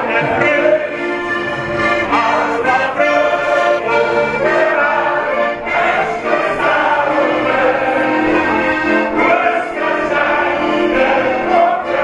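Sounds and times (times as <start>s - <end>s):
button accordion playing: 0.0s - 12.0s.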